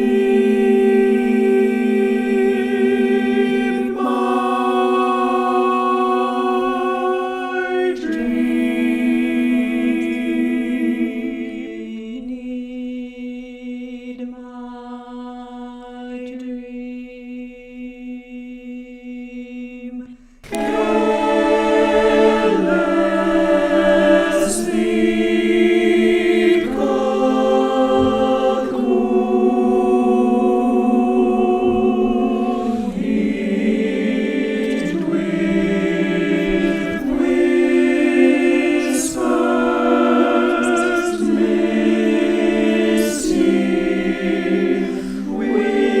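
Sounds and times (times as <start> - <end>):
a cappella choir singing: 0.0 - 46.0.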